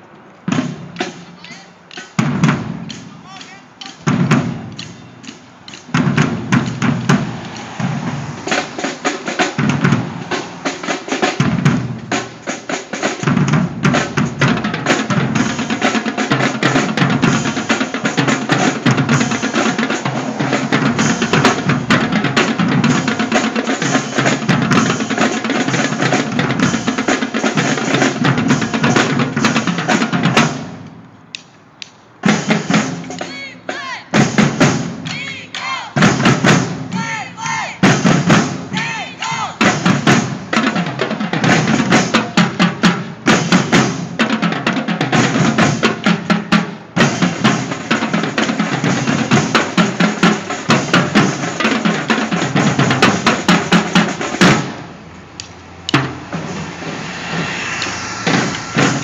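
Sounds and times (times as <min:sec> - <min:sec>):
drumline playing: 0:00.4 - 0:31.0, 0:31.9 - 0:59.0.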